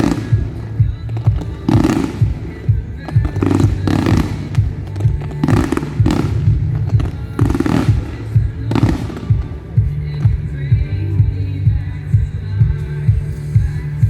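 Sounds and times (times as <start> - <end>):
fireworks bursting: 0.0 - 11.6
music with pulsing bass beat: 0.0 - 14.0.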